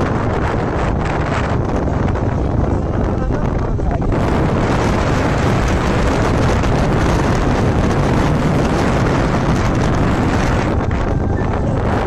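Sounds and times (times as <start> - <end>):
motorcycle engine: 0.0 - 12.0
road noise: 0.0 - 12.0
wind rush on microphone: 0.0 - 12.0.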